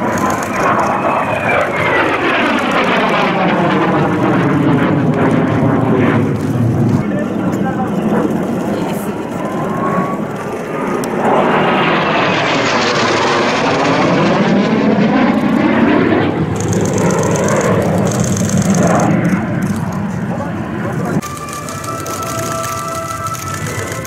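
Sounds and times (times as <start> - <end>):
jet passing close: 0.0 - 24.0.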